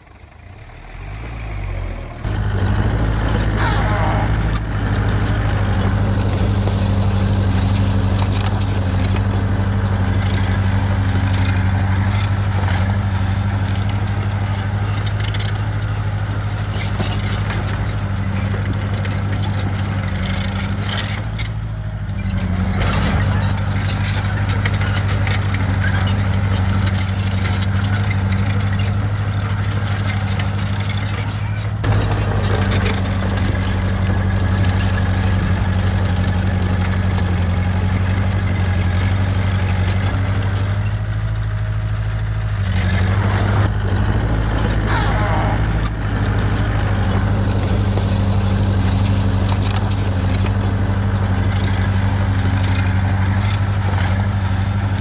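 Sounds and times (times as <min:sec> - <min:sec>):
bulldozer diesel engine running: 0:00.0 - 0:55.0
metallic clanking and rattling: 0:02.3 - 0:55.0.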